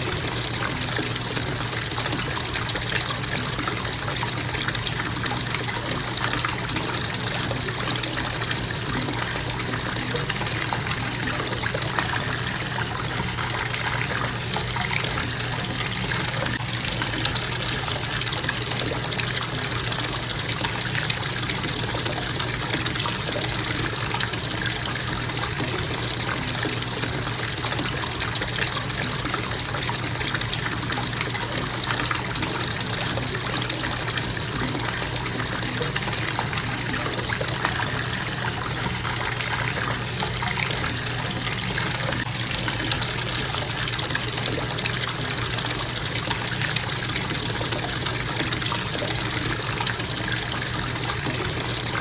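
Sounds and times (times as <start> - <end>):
faucet water splashing into tub: 0.0 - 52.0.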